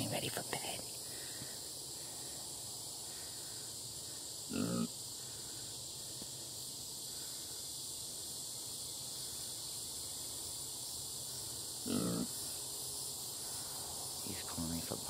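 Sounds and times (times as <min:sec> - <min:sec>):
crickets and insects chirping: 0:00.0 - 0:15.0.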